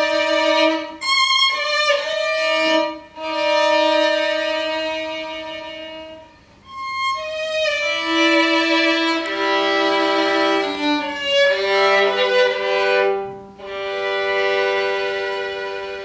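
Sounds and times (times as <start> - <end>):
bowed solo violin: 0.0 - 16.0.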